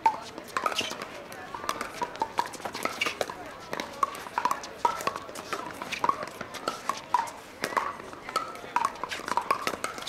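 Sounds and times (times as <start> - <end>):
paddles hitting plastic ball: 0.0 - 10.0.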